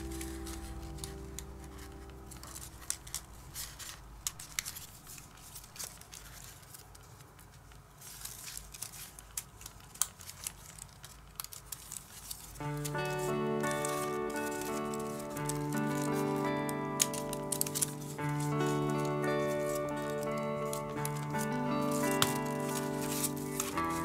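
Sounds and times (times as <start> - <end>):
stiff paper rustling and clicking: 0.0 - 24.0.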